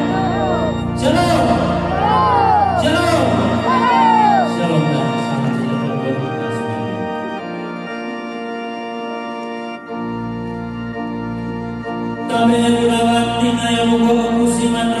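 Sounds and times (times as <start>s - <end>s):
organ-like keyboard chords: 0.0s - 15.0s.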